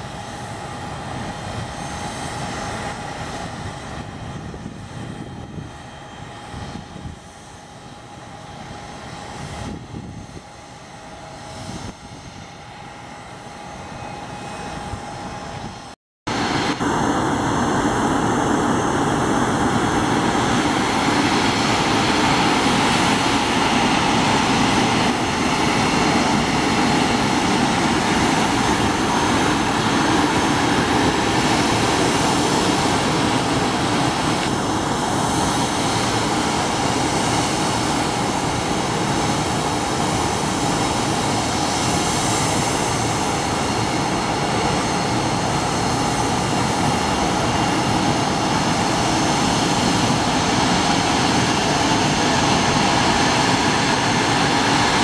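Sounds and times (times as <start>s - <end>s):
jet engines taxiing: 0.0s - 55.0s.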